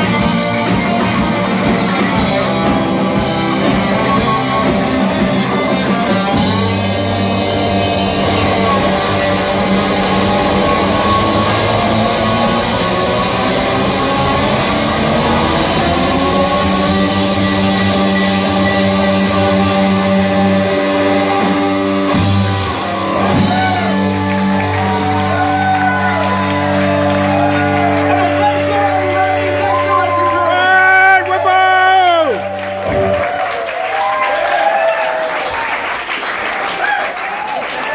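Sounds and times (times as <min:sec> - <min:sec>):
live rock band playing: 0:00.0 - 0:36.8.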